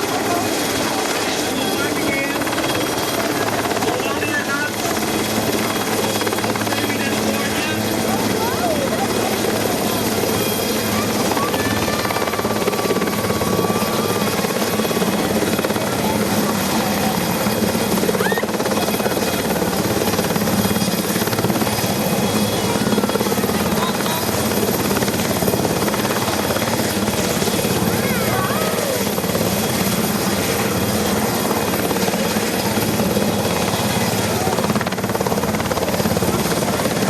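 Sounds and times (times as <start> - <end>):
helicopter rotor and turbine drone: 0.0 - 37.0.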